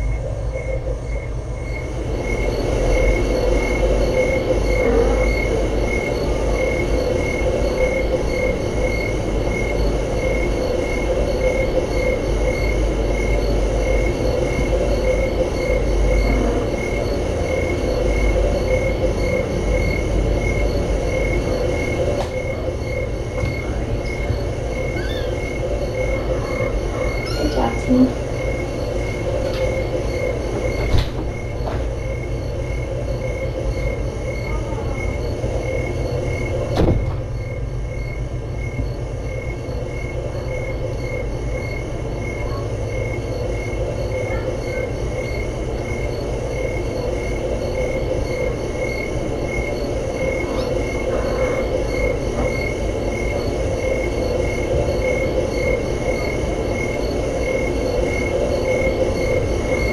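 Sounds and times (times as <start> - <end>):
room hum and hiss: 0.0 - 59.9.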